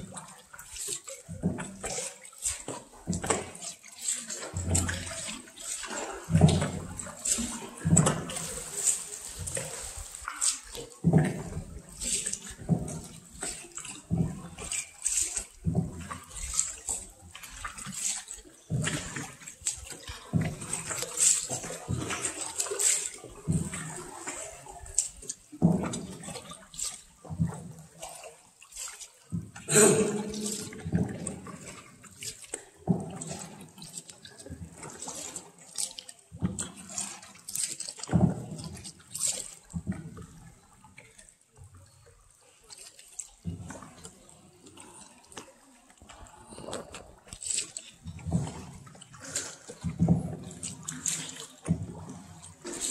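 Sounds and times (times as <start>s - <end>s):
water splashing and dripping: 0.0s - 52.9s.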